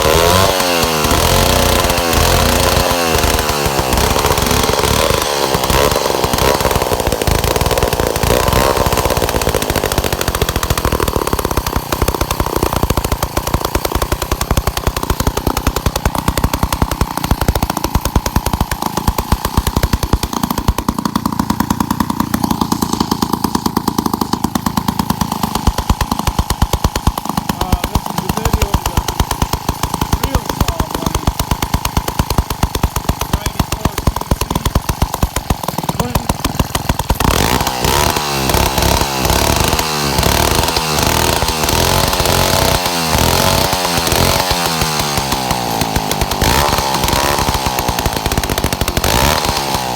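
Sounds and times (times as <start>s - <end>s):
chainsaw revving: 0.0s - 49.9s.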